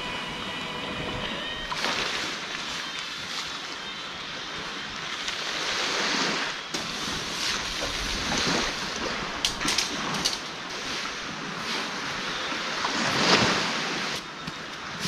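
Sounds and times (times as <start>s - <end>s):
surf washing on beach: 0.0s - 15.0s.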